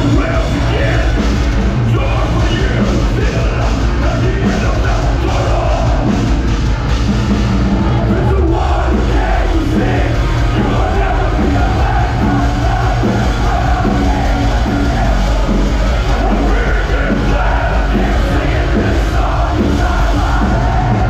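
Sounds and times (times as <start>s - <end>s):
crowd noise: 0.0s - 21.0s
live metal band playing: 0.0s - 21.0s
yelled vocals: 0.0s - 21.0s.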